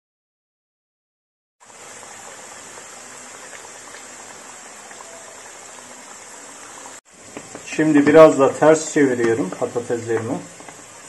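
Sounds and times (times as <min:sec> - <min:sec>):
potatoes deep-frying in oil: 0:01.6 - 0:11.0.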